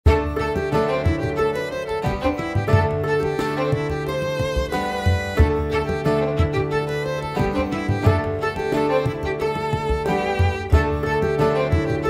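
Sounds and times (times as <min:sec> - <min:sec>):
instrumental background music: 0:00.1 - 0:12.0.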